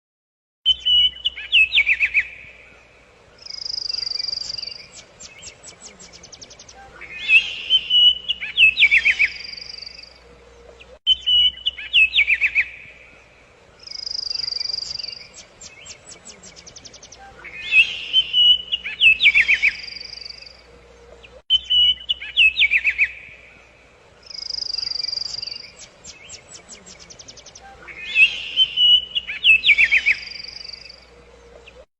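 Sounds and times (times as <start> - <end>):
songbirds singing: 0.7 - 31.9.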